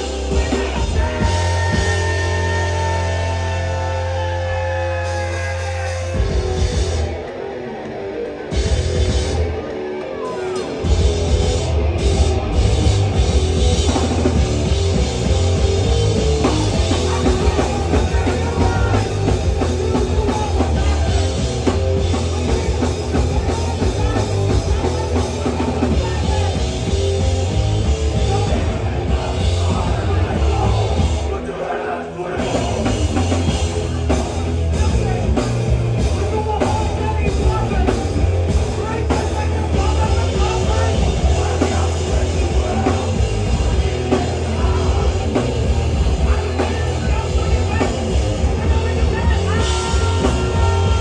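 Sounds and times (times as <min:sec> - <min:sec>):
punk band playing loud: 0:00.0 - 0:51.0.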